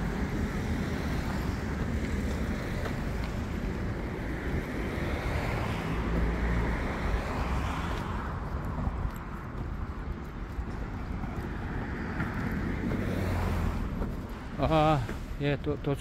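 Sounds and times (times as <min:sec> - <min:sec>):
wind rumbling on microphone: 0:00.0 - 0:15.5
passing traffic: 0:00.0 - 0:16.0.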